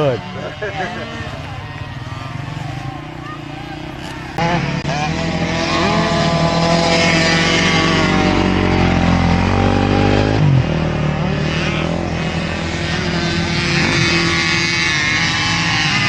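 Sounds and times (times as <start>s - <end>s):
dirt bike engines racing: 0.0s - 16.0s.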